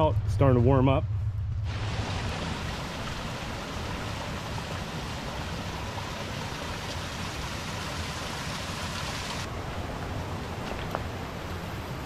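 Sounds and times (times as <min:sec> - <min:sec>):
creek water rushing: 0:01.7 - 0:12.0.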